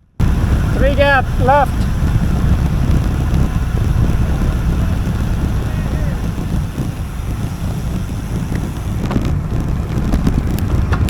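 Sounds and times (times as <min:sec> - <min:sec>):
wind buffeting microphone: 0:00.0 - 0:11.0
sharp clicks: 0:00.2 - 0:11.0.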